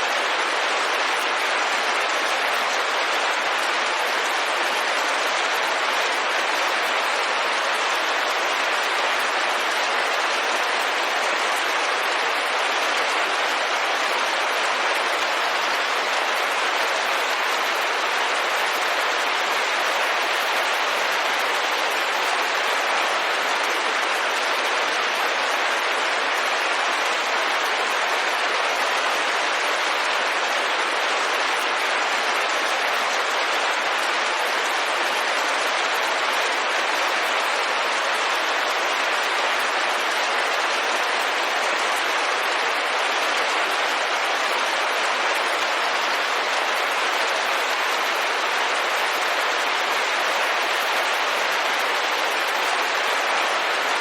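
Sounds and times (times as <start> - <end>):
rain falling on a window: 0.0 - 54.0.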